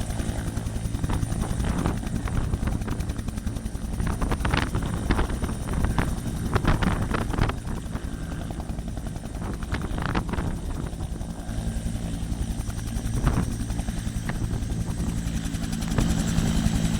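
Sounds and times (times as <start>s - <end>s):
helicopter rotor beat: 0.0s - 16.9s.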